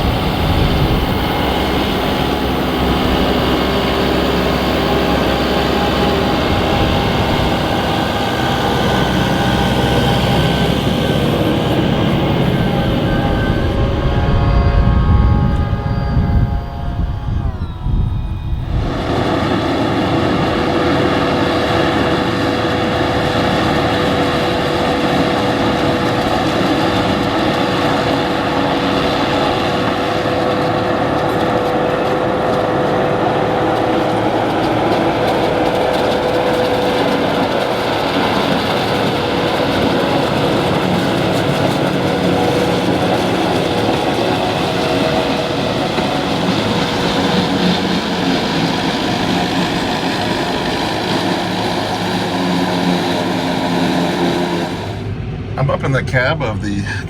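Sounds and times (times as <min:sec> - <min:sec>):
tractor and forage harvester running: 0:00.0 - 0:57.0.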